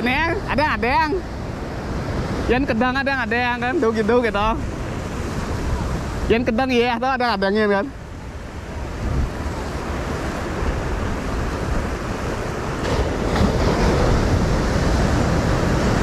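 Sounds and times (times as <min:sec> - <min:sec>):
waves breaking on rocky shore: 0:00.0 - 0:16.0.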